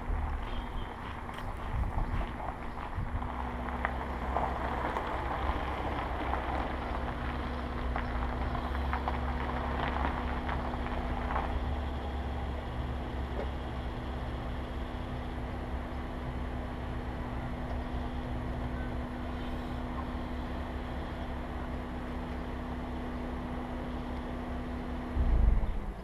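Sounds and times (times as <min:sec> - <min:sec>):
tyres crunching on gravel: 0:00.0 - 0:25.3
low engine rumble: 0:00.0 - 0:26.0.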